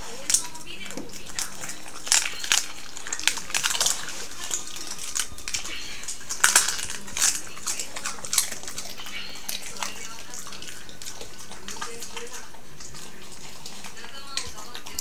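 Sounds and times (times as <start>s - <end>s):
dog chewing cabbage leaf crunches: 0.0s - 15.0s.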